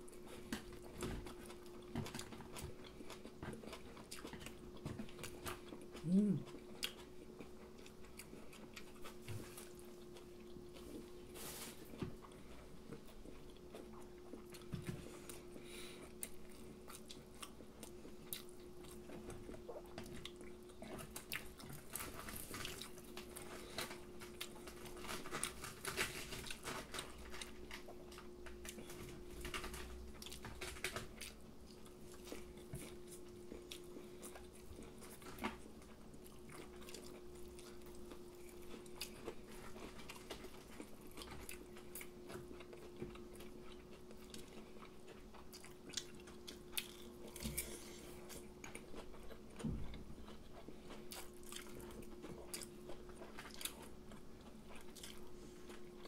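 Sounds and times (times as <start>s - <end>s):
chewing with crisp crunches: 0.0s - 56.0s
faint steady hum: 0.0s - 56.0s.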